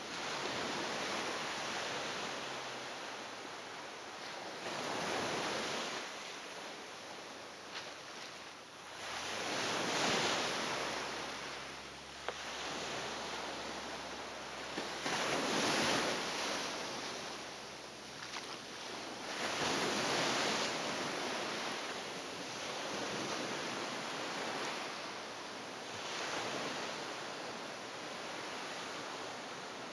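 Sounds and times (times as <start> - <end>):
waves washing up a sandy beach: 0.0 - 29.9.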